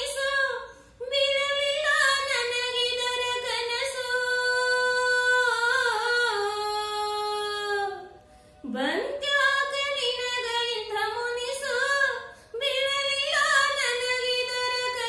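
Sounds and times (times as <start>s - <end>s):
woman singing unaccompanied: 0.0s - 8.0s, 8.7s - 15.0s.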